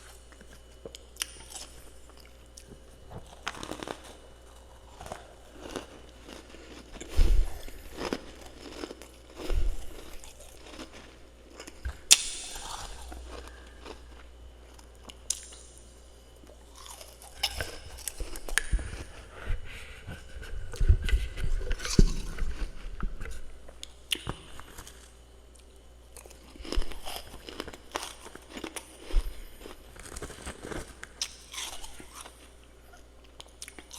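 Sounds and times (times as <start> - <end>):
frost being chewed: 0.0 - 33.9.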